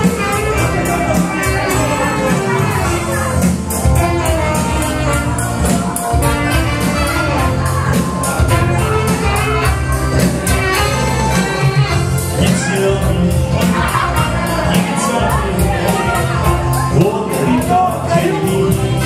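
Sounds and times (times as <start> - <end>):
band playing dance music: 0.0 - 19.0
driving bass line: 0.0 - 19.0
fast drum beat: 0.0 - 19.0.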